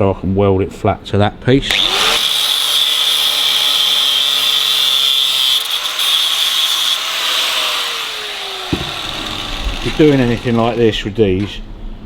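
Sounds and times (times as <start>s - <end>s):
grinder grinding metal: 1.7s - 11.7s.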